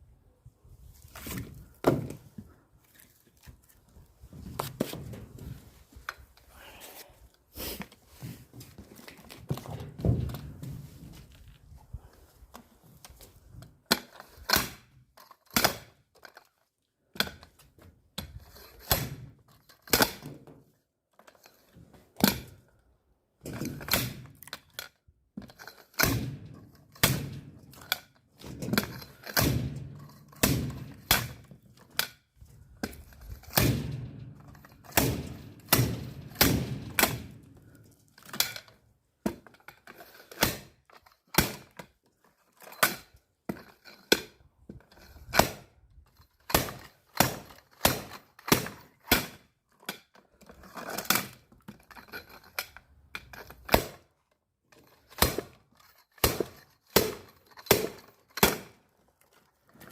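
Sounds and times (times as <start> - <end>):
axe splitting firewood: 1.0 - 6.2, 13.2 - 20.7, 21.5 - 22.7, 23.4 - 59.9.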